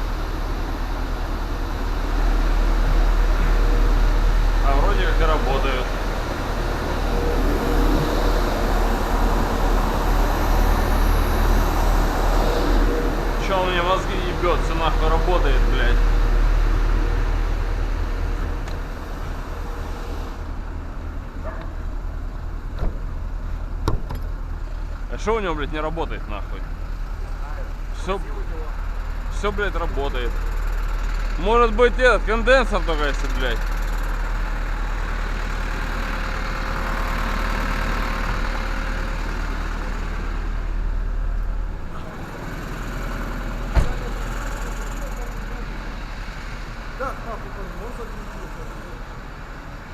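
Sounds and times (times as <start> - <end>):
refrigeration unit humming: 0.0 - 49.9.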